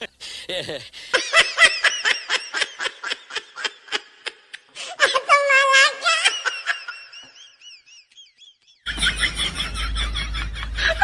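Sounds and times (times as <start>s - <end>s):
person laughing: 0.0s - 5.2s, 6.1s - 11.0s.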